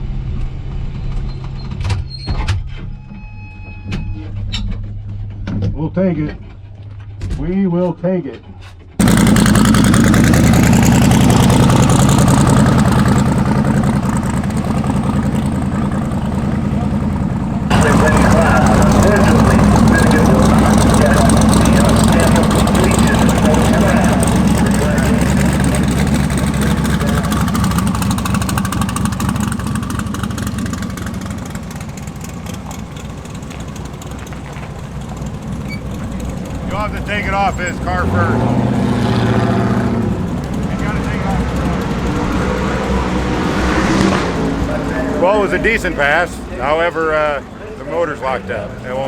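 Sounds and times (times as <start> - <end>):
loud drag car engine idling: 9.0 - 49.0.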